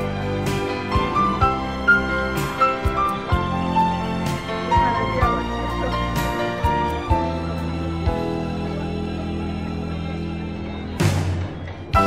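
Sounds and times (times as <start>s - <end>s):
music with long held notes: 0.0s - 12.0s.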